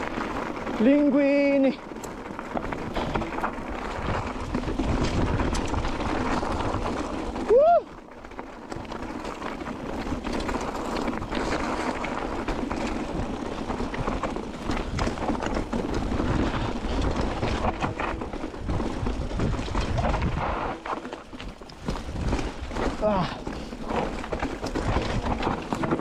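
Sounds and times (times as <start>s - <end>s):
wind buffeting microphone: 0.0s - 7.8s, 9.8s - 26.0s
footsteps on trail: 0.0s - 26.0s.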